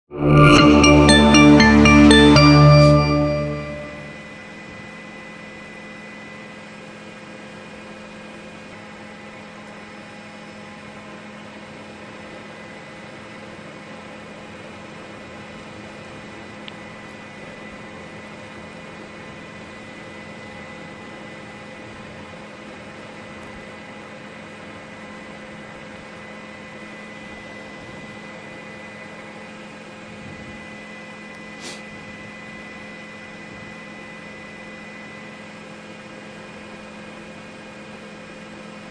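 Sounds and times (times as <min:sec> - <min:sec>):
helicopter engine and rotor noise: 0:04.2 - 0:38.9.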